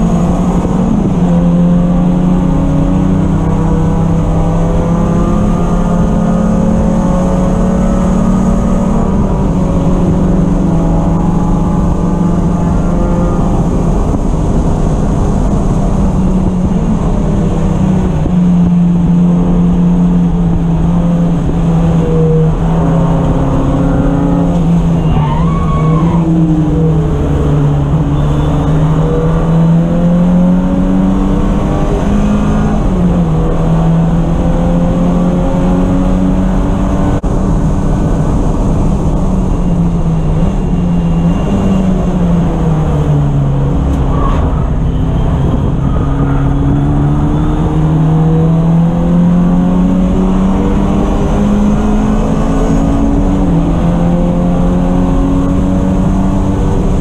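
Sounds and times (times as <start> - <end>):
race car engine: 0.0 - 57.0.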